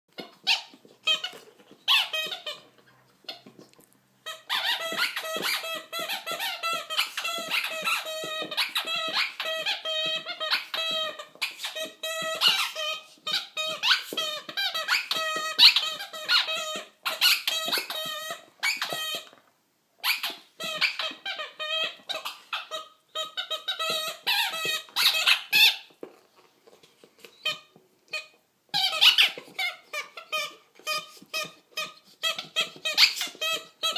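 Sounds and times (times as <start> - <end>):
squeaky toy ball squeaking: 0.1 - 19.4, 20.0 - 26.1, 27.1 - 33.9.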